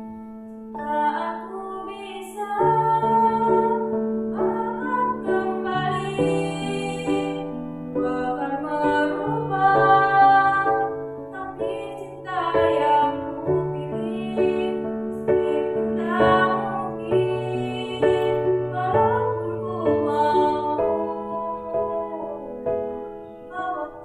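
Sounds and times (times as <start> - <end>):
girl singing pop ballad: 0.8 - 24.0.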